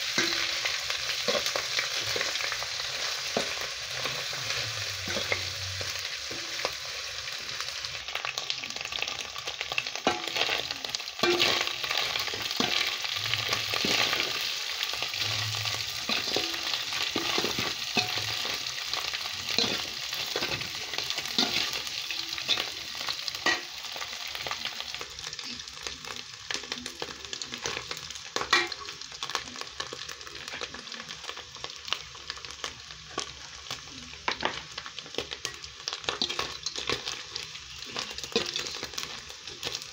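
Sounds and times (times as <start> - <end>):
fish sizzling in pot: 0.0 - 39.9.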